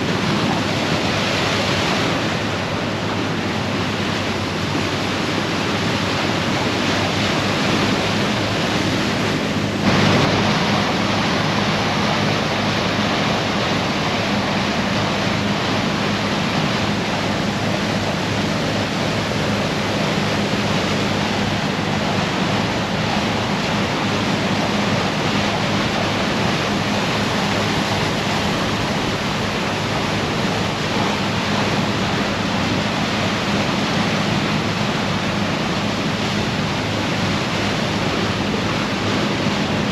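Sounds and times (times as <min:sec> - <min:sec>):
ship engine drone: 0:00.0 - 0:39.9
water and wind rushing: 0:00.0 - 0:39.9.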